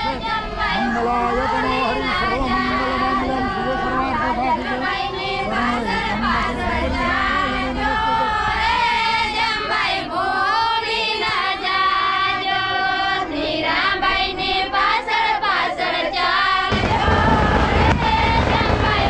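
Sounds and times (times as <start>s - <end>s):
women singing together: 0.0s - 19.0s.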